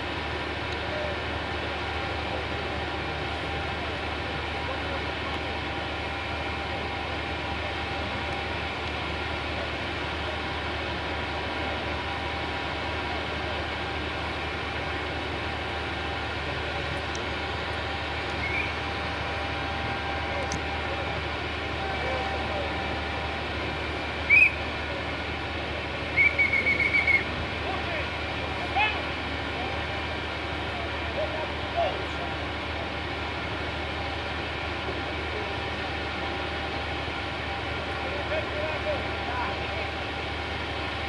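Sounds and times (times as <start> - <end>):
machinery engine drone: 0.0 - 41.0.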